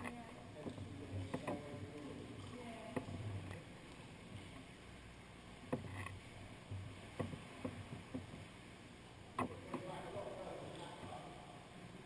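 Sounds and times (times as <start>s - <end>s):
water lapping in a sea cave: 0.0s - 12.0s.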